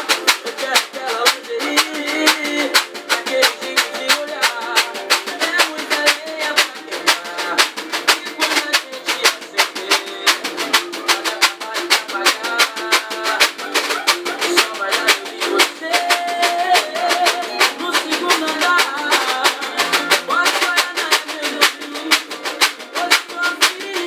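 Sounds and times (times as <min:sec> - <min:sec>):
pagode music: 0:00.0 - 0:24.0
scraper rasping strokes: 0:00.0 - 0:24.0.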